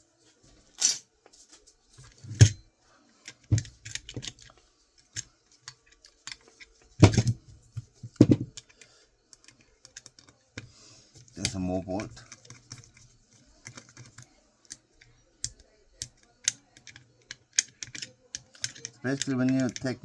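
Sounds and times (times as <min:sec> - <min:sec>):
metal parts clicking and clinking: 0:00.8 - 0:01.0, 0:02.0 - 0:02.6, 0:03.3 - 0:10.3, 0:11.2 - 0:20.0.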